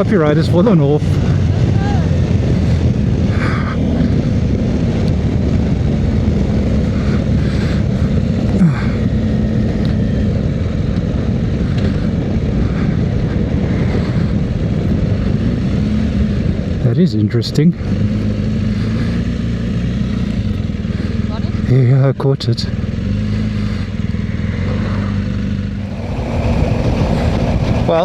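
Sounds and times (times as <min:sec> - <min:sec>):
wind rush on microphone: 0:00.0 - 0:21.3, 0:22.8 - 0:28.0
motorcycle engine running: 0:00.0 - 0:28.0.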